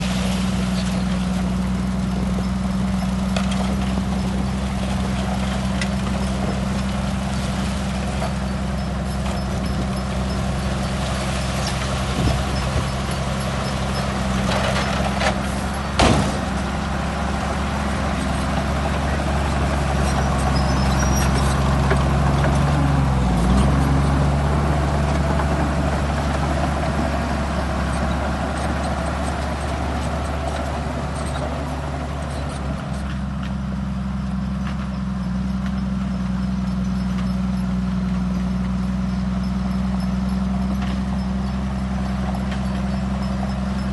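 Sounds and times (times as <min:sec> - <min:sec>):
heavy machinery diesel engine: 0:00.0 - 0:43.9.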